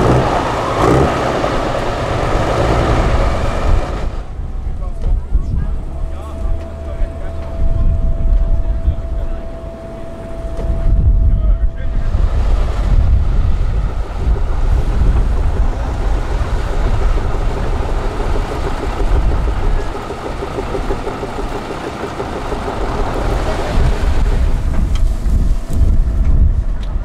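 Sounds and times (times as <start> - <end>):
truck diesel engine under load: 0.0 - 27.0
wind buffeting microphone: 0.0 - 27.0.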